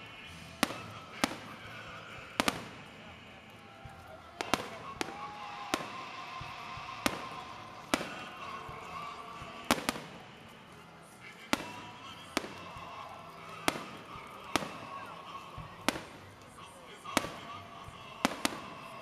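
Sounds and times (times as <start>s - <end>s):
firework shells bursting: 0.3s - 19.0s.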